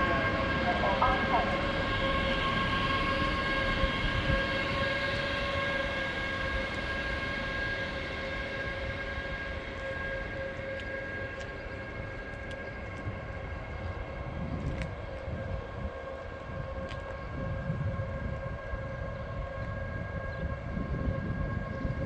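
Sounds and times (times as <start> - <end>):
electric locomotive whine: 0.0 - 22.0
train low rumble: 0.0 - 22.0.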